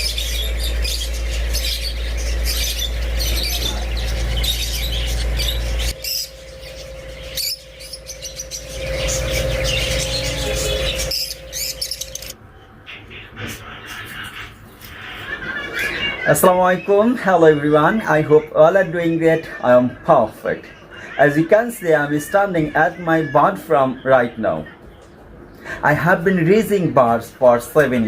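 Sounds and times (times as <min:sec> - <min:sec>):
parrots chirping and squawking: 0:00.0 - 0:26.1.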